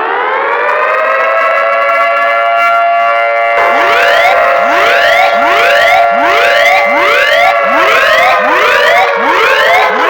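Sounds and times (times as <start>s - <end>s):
siren-like alarm chord: 0.0s - 10.0s.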